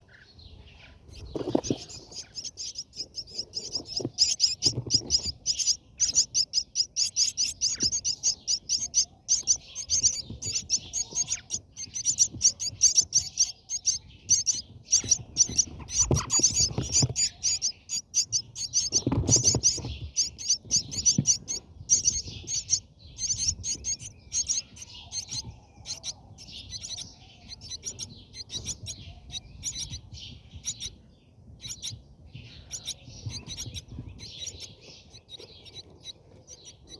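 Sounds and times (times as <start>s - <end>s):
starlings chirping: 0.0s - 36.9s.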